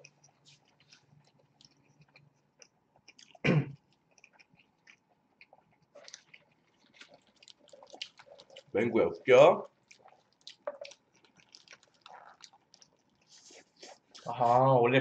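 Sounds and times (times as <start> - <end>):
chewing burger: 0.0 - 14.4.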